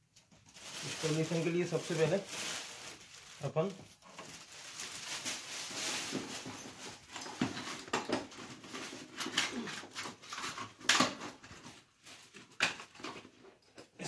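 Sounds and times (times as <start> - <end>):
rustles and knocks of handling: 0.0 - 14.0.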